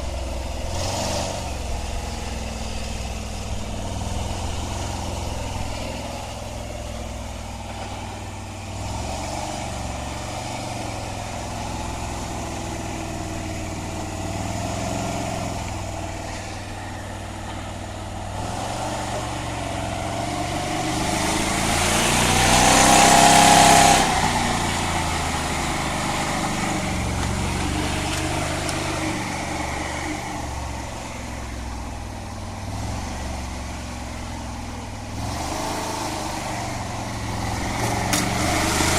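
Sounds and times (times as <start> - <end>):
vehicle engine revving under load: 0.0 - 38.9.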